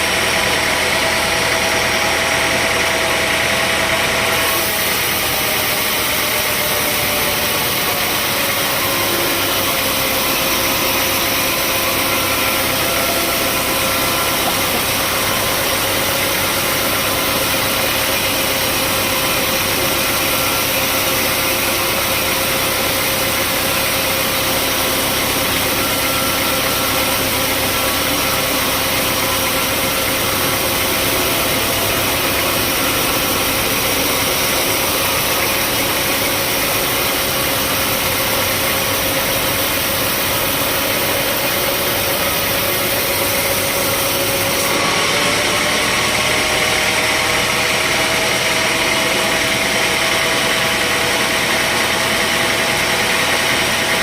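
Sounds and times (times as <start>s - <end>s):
sawmill engine and saw whine: 0.0s - 54.0s.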